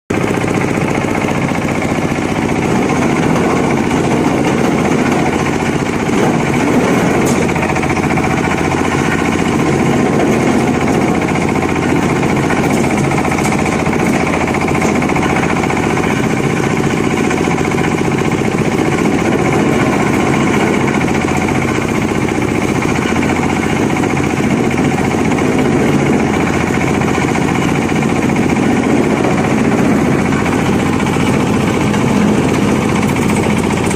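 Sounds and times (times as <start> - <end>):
wood grinding machine running: 0.1 - 33.9.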